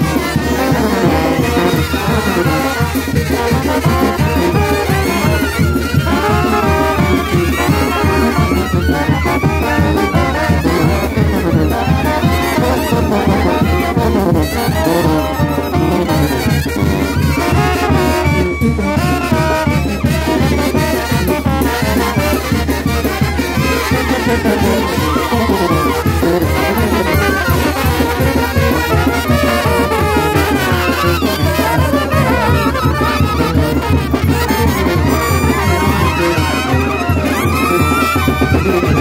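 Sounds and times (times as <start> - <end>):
brass band playing loudly: 0.0 - 39.0.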